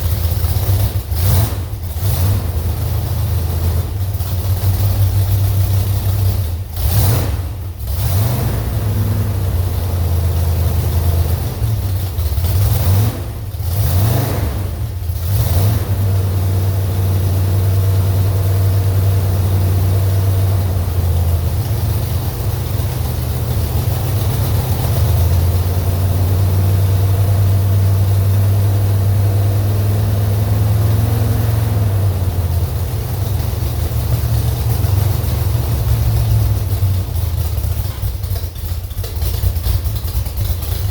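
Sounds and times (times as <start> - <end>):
engine running on test stand: 0.0 - 40.9.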